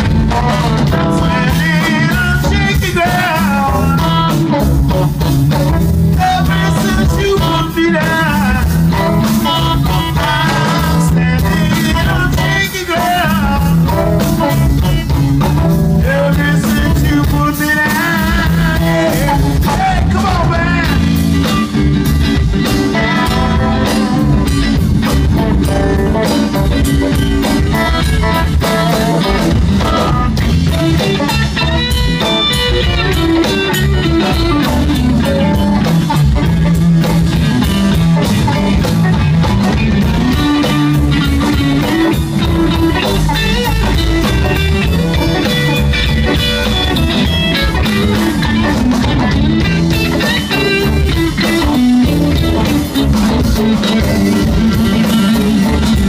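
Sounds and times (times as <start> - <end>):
amplified harmonica: 0.0 - 56.0
drums: 0.0 - 56.0
electric bass: 0.0 - 56.0.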